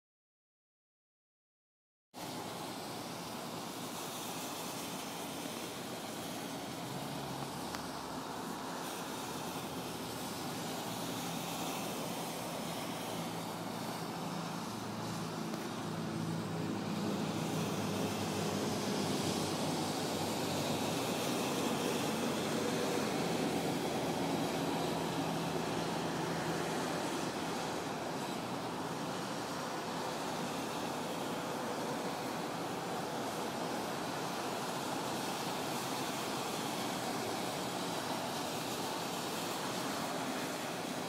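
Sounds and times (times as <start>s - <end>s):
highway traffic: 2.2s - 41.0s.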